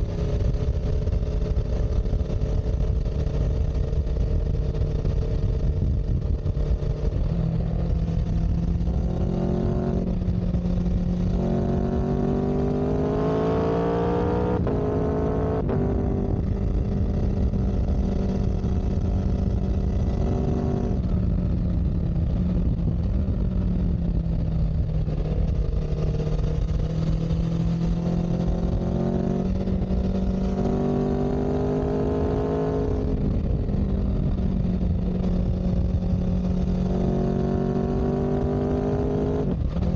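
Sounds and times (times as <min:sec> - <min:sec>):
constant low rumble: 0:00.0 - 0:39.9
vehicle engine accelerating: 0:00.0 - 0:39.9.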